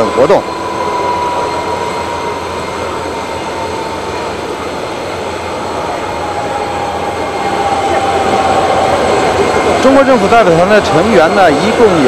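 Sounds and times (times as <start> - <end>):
jet engine rushing with high whine: 0.0 - 12.0.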